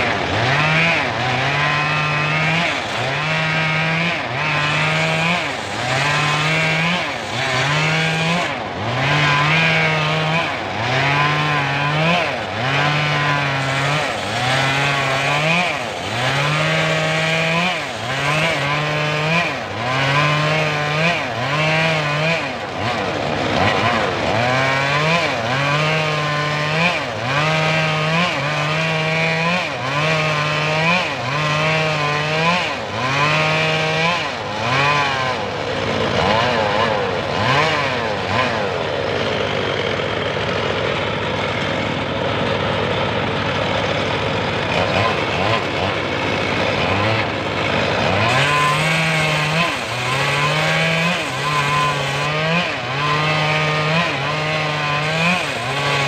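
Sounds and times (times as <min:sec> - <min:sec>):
saw rig engine running: 0:00.0 - 0:56.0.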